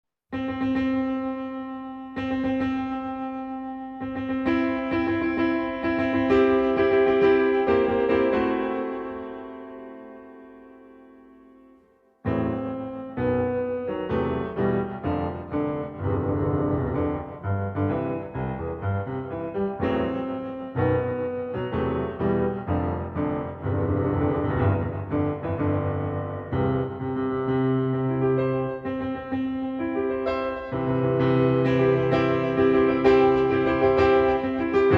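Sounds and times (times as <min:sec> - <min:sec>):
piano background music: 0:00.4 - 0:34.9.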